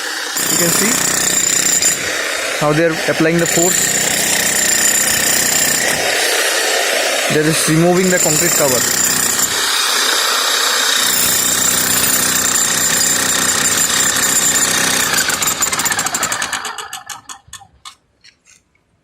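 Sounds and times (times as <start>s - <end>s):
demolition hammer chipping concrete: 0.0s - 17.5s.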